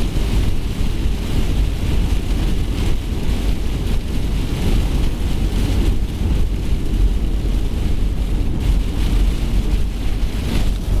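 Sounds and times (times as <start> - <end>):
wind buffeting microphone: 0.0 - 11.0
rain hissing: 0.1 - 11.0.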